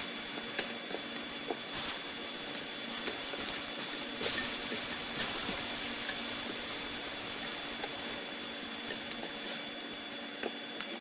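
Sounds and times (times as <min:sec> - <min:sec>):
fruit sizzling on a grill: 0:00.0 - 0:10.8
faint crackles: 0:00.0 - 0:11.0.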